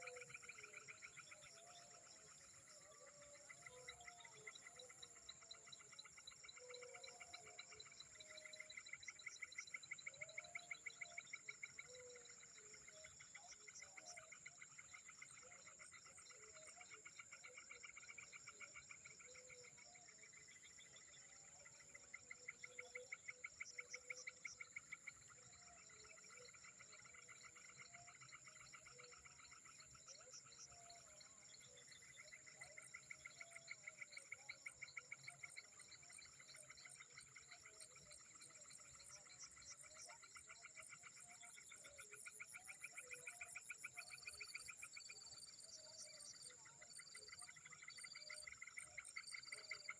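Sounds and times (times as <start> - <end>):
rapid pulsing frog calls: 0.0 - 49.9.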